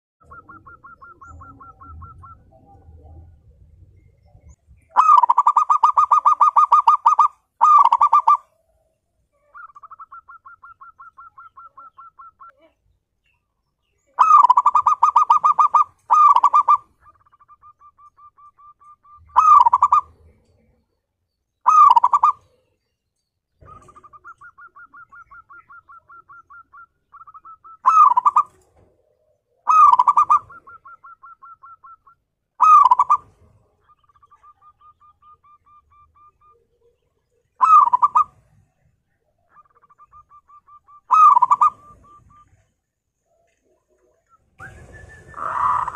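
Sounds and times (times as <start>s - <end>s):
dove cooing: 0.2s - 12.5s, 14.1s - 20.8s, 21.7s - 22.6s, 23.6s - 42.7s, 43.3s - 45.9s.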